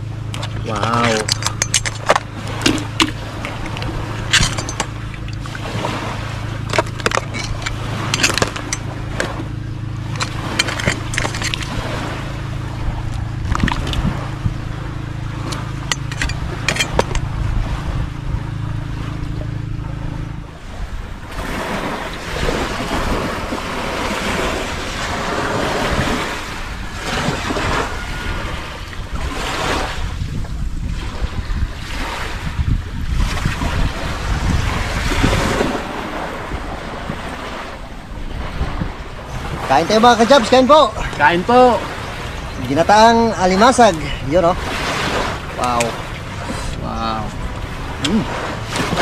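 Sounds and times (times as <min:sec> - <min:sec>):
low hum: 0:00.0 - 0:49.0
surf washing: 0:00.0 - 0:49.0
wind gusting on microphone: 0:00.0 - 0:49.0.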